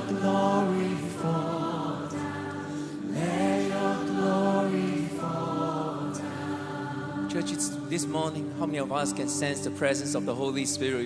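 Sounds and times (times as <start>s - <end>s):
people singing worship song: 0.0s - 10.0s
backing music: 0.0s - 11.0s.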